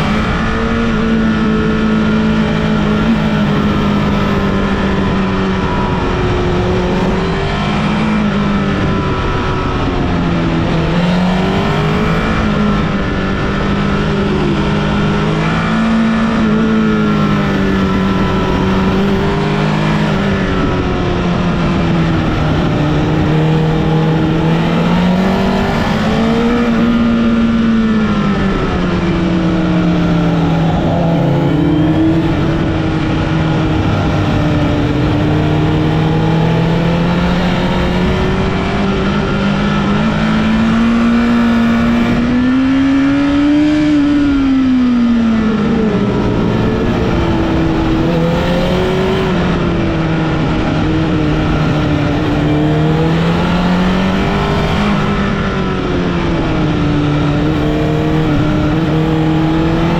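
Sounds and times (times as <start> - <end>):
motorcycle engine revving: 0.0 - 59.9
rush of wind noise: 0.0 - 59.9.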